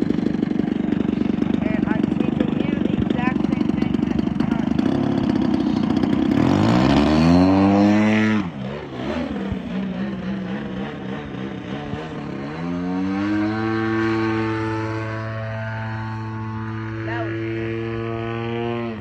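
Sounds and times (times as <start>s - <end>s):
model plane engine revving: 0.0s - 19.0s.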